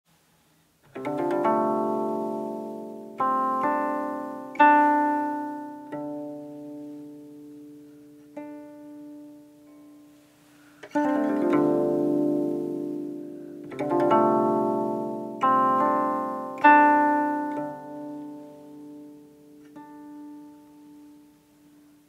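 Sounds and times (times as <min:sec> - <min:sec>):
zither plucked slowly: 0:00.8 - 0:21.9.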